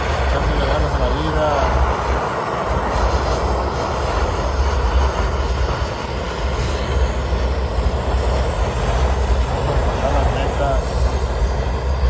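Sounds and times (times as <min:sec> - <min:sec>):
roofing torch flame rushing: 0:00.0 - 0:12.0.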